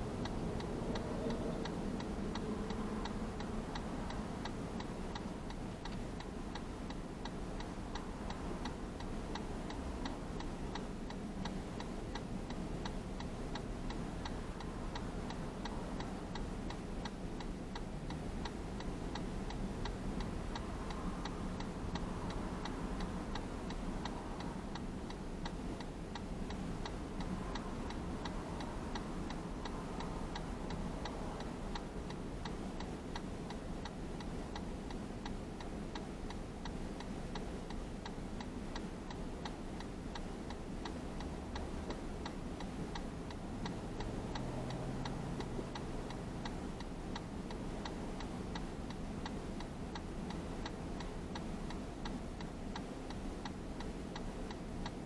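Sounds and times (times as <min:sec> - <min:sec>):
low steady hum: 0:00.0 - 0:55.0
turn signal ticking: 0:00.0 - 0:55.0.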